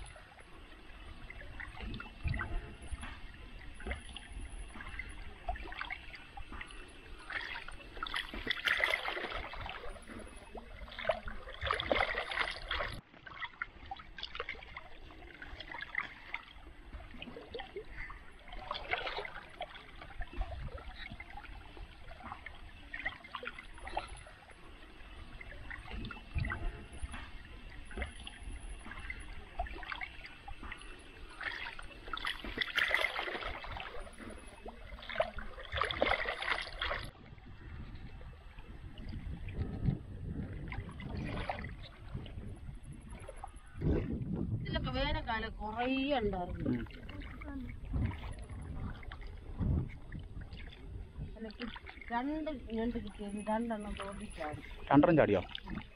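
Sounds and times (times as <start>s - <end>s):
water gurgling: 0.0s - 55.9s.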